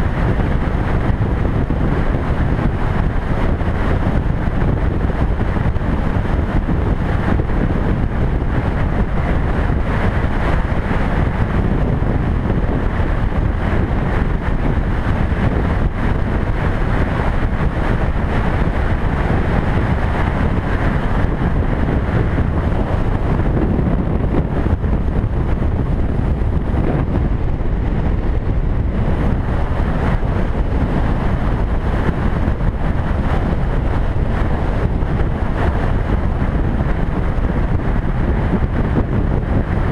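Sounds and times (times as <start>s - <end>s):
road noise: 0.0s - 39.9s
wind noise on microphone: 0.0s - 39.9s.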